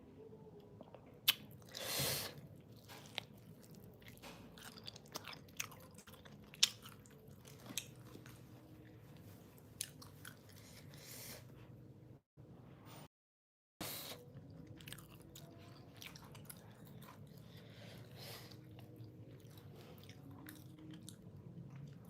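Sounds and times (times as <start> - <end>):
person chewing food: 0.8 - 11.2, 14.2 - 22.0.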